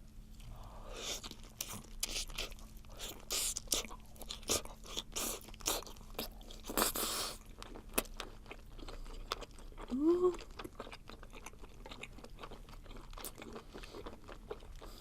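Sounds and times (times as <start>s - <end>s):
wet chewing and crunching: 0.4s - 15.0s.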